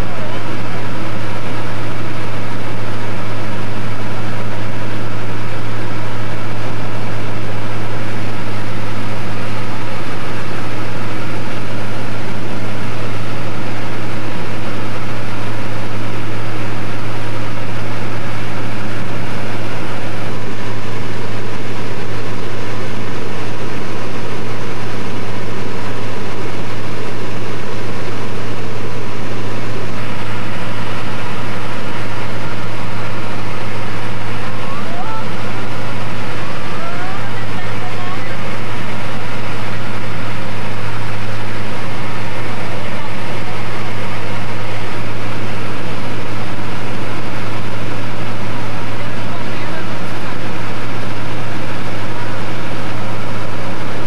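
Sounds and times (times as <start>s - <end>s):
light aircraft engine drone: 0.0s - 54.0s.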